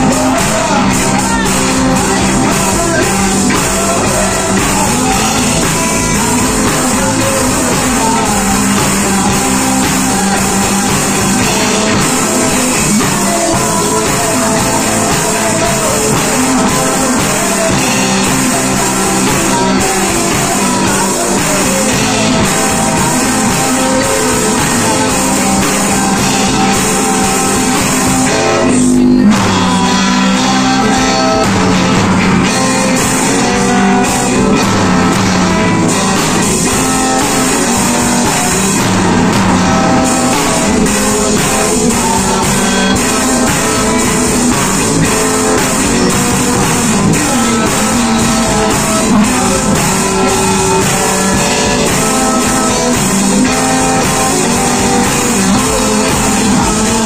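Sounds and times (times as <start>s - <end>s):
drum kit: 0.0s - 57.0s
electric guitars: 0.0s - 57.0s
man singing: 0.0s - 57.0s.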